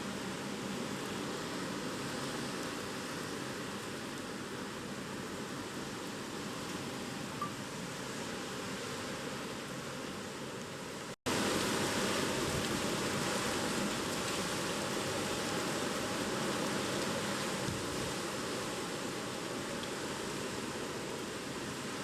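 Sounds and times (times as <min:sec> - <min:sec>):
rain: 0:00.0 - 0:22.0.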